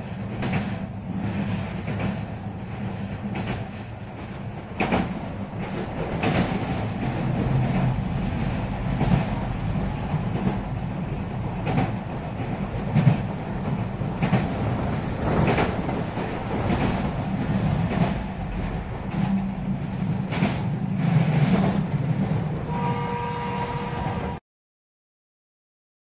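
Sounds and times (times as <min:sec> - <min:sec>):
train wheels rumbling on rails: 0:00.0 - 0:24.4.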